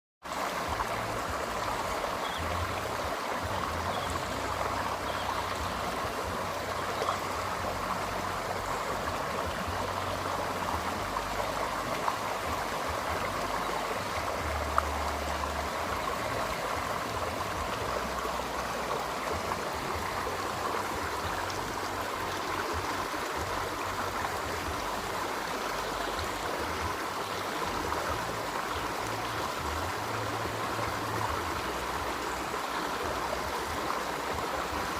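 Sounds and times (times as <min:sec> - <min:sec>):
water rushing: 0:00.2 - 0:34.9.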